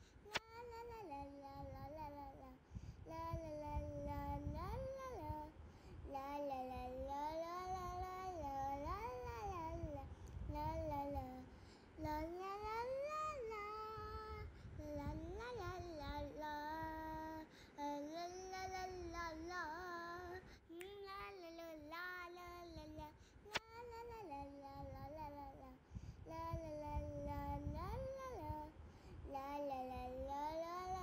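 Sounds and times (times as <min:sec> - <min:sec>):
high voice singing slow melody: 0:00.0 - 0:31.0.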